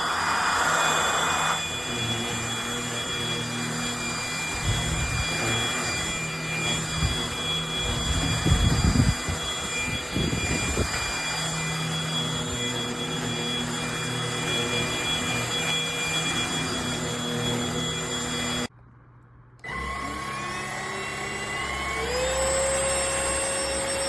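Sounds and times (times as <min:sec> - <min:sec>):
vacuum cleaner motor whine: 0:00.0 - 0:18.7, 0:19.6 - 0:24.0.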